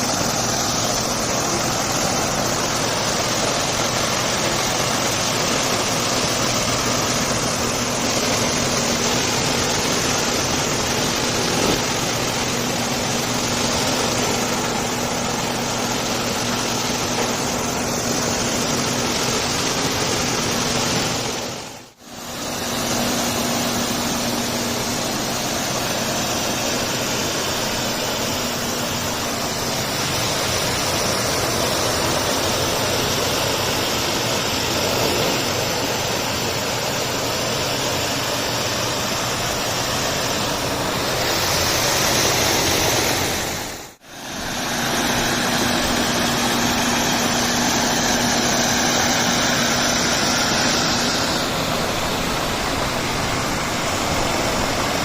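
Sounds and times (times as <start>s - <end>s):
cleaning machine rushing hiss: 0.0s - 55.0s.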